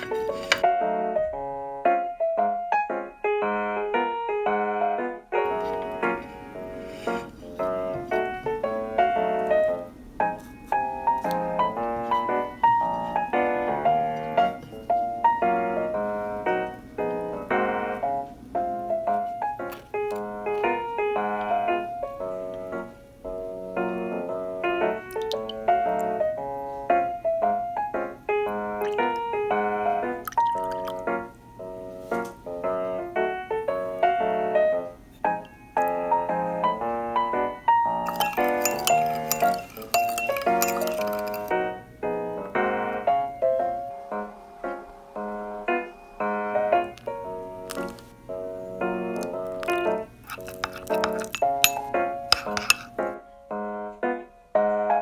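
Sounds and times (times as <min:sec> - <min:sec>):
piano tune: 0:00.0 - 0:55.0.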